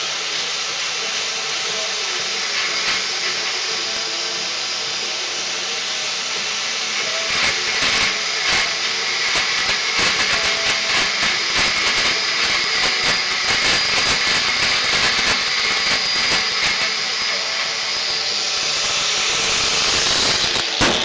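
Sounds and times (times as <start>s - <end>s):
power tool cutting metal: 0.0s - 21.0s.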